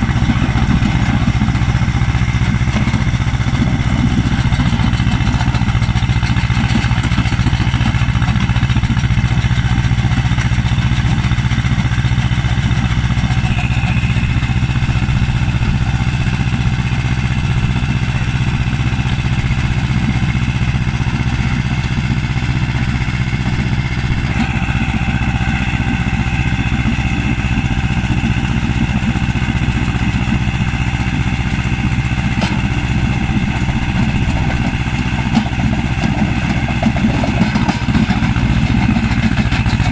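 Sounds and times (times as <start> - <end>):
stone crusher whine: 0.0 - 39.9
tractor engine running under load: 0.0 - 39.9.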